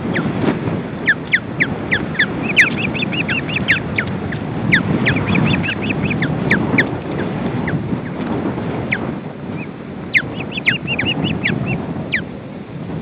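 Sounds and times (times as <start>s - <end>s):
ospreys calling: 0.0s - 12.4s
wind rumble on microphone: 0.0s - 13.0s.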